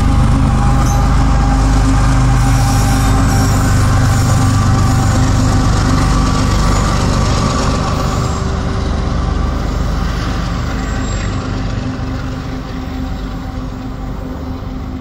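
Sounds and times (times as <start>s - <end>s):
diesel engine drone: 0.0s - 15.0s
train wheel and rail noise: 0.0s - 15.0s.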